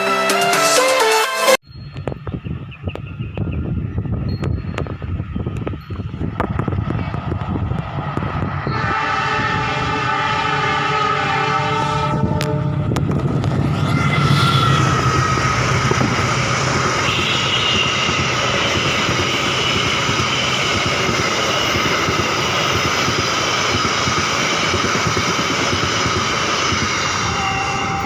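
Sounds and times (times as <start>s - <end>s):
train passing: 4.3s - 28.0s.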